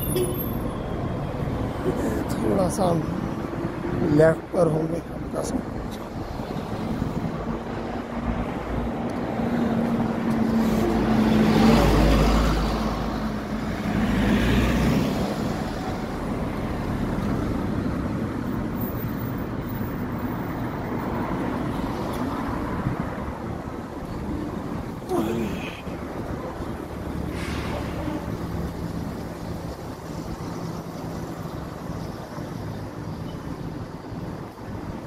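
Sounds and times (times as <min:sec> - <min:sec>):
road noise: 0:00.0 - 0:35.0.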